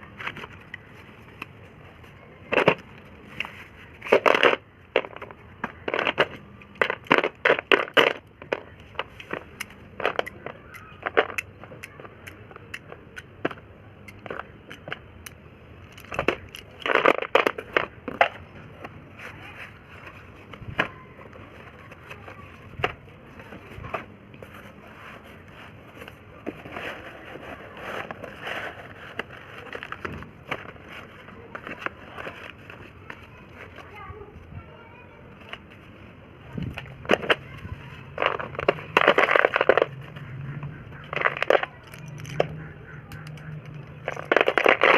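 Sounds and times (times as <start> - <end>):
slate pencils crunching and snapping: 0.1 - 23.0, 23.6 - 33.9, 36.6 - 44.9.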